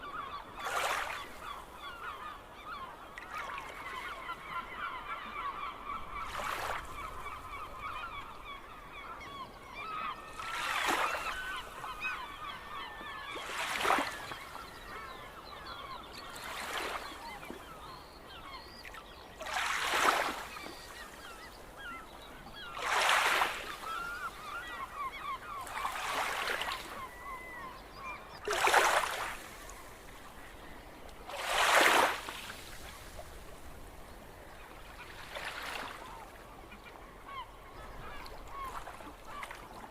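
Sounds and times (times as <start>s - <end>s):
seagulls calling: 0.0s - 39.9s.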